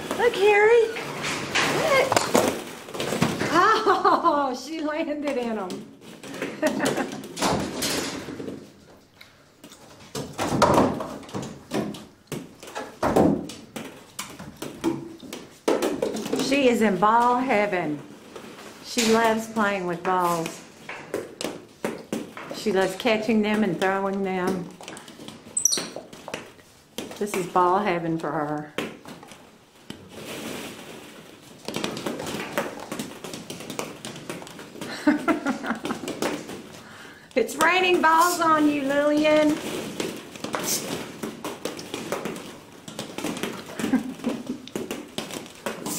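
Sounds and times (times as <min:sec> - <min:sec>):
plastic balls clattering: 0:00.0 - 0:45.9.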